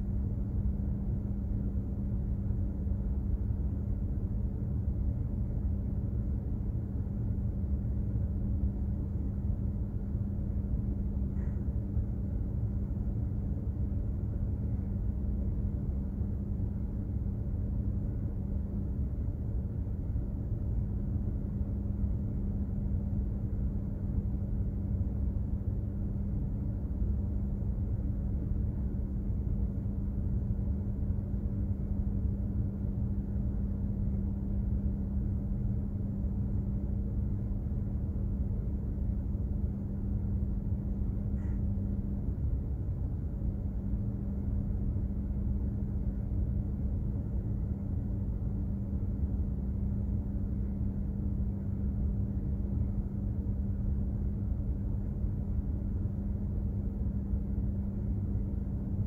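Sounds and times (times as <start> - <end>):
constant hum: 0.0 - 59.0.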